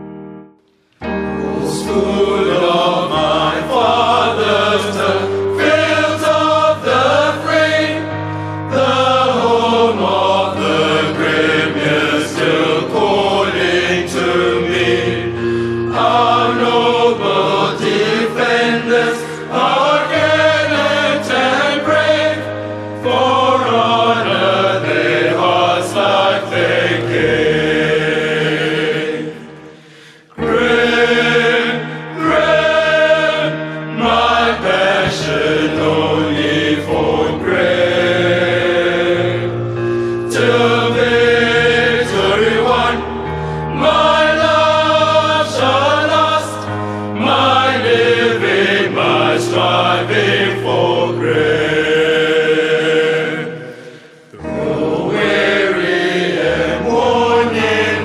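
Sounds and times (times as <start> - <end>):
choir singing: 1.0 - 58.0.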